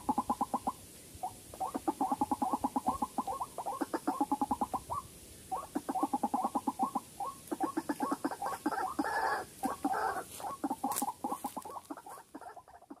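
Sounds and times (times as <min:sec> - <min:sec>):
waterhen croaking calls: 0:00.0 - 0:13.0.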